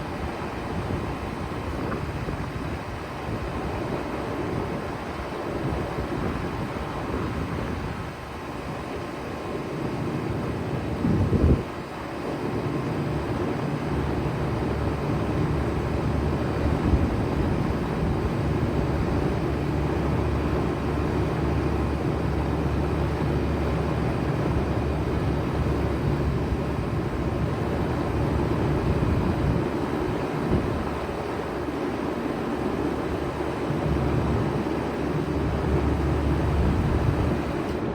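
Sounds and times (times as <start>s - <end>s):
heat pump humming: 0.0s - 37.9s.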